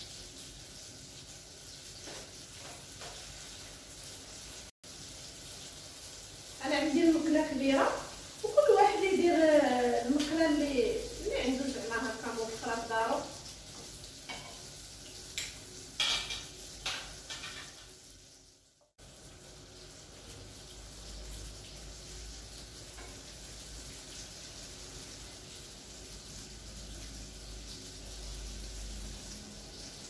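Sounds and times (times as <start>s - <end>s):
dough sizzling in hot oil: 0.0s - 30.0s.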